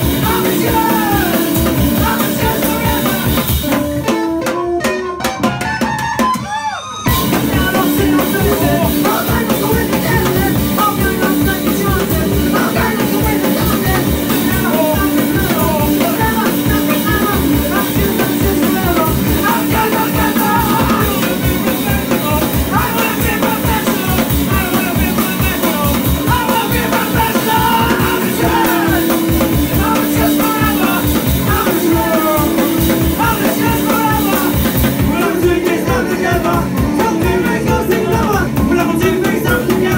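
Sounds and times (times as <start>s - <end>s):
punk band playing: 0.0s - 39.9s
steady drum beat: 0.0s - 39.9s.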